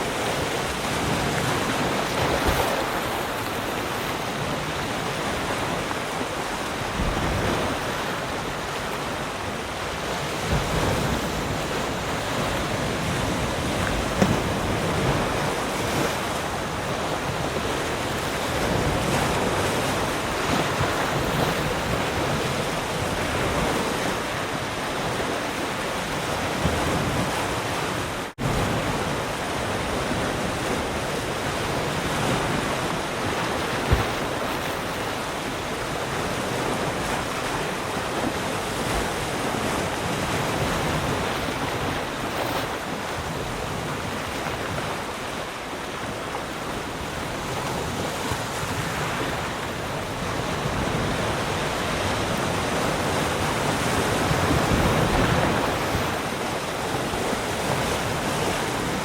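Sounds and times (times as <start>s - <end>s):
waves breaking on shore: 0.0s - 59.0s
wind on microphone: 0.0s - 59.0s.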